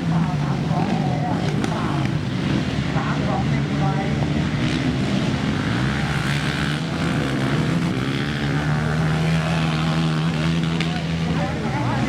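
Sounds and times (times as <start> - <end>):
atv engines running: 0.0 - 12.0.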